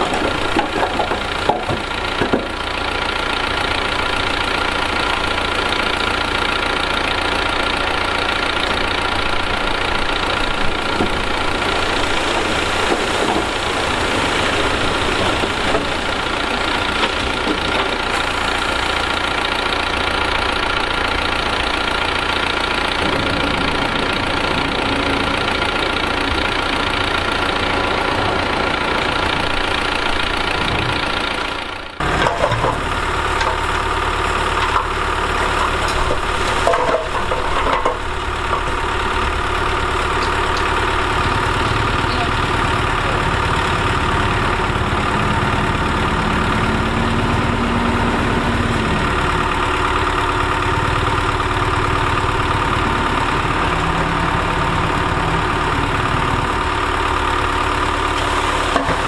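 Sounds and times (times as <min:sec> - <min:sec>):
heavy machinery diesel engine running: 0:00.0 - 0:59.0.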